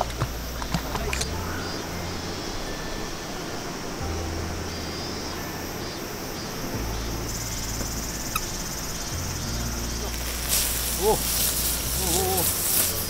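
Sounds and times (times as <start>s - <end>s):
insects buzzing: 0.0s - 13.0s
steady outdoor hiss: 0.0s - 13.0s.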